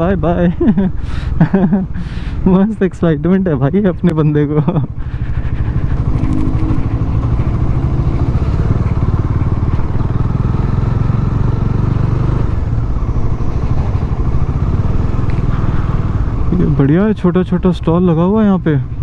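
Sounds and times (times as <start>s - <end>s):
motorcycle engine running: 3.3s - 19.0s.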